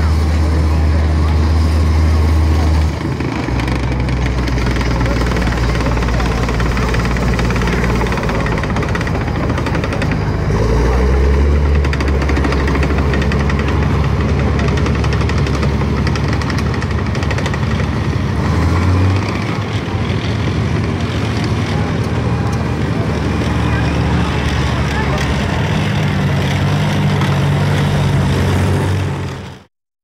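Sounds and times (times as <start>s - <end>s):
diesel engine under load: 0.0s - 29.7s.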